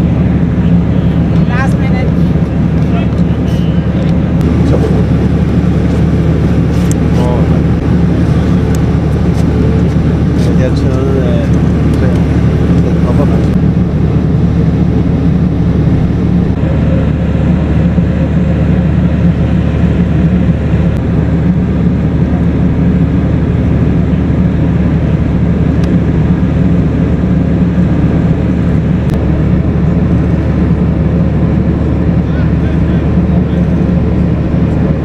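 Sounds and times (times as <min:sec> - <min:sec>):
loud low rumble: 0:00.0 - 0:35.0.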